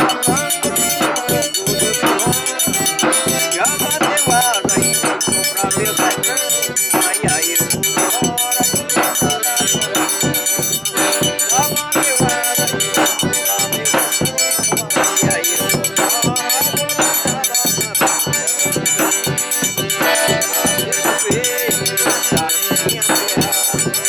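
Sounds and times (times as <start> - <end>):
instrumental folk music: 0.0 - 24.0.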